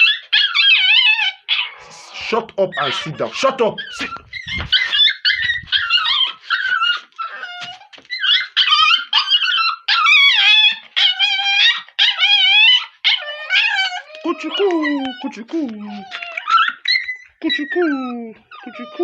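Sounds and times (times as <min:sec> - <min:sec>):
puppy whining and howling: 0:00.0 - 0:19.0.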